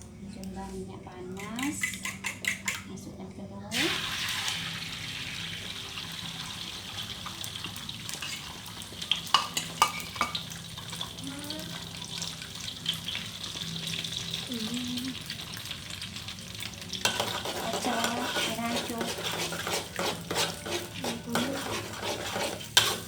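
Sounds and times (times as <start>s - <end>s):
eggs sizzling in oil: 3.7s - 23.0s.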